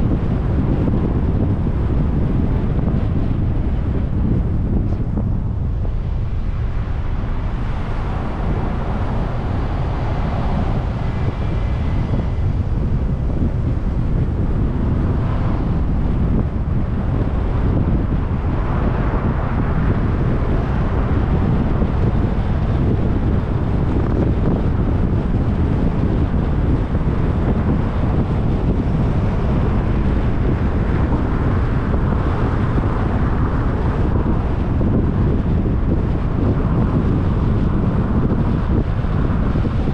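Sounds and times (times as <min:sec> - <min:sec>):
car driving rumble: 0:00.0 - 0:39.9
wind buffeting microphone: 0:00.0 - 0:39.9.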